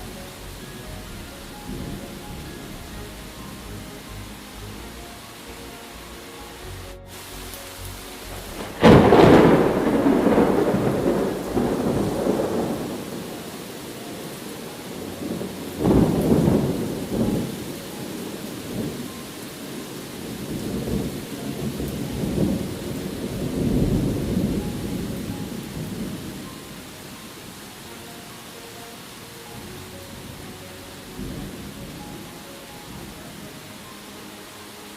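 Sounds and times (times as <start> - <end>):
thunder rumbling: 0.0 - 34.4
steady rain: 0.0 - 34.9.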